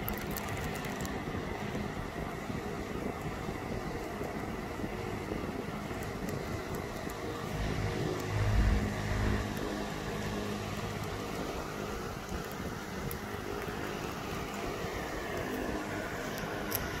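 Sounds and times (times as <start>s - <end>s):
aquarium pump humming: 0.0s - 17.0s.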